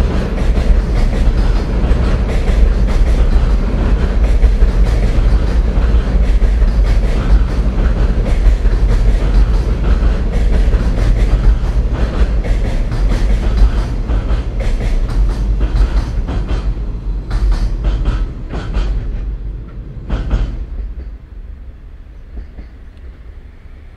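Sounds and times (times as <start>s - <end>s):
wheels clacking over rail joints: 0.0s - 21.5s
freight train rumbling over bridge: 0.0s - 23.9s.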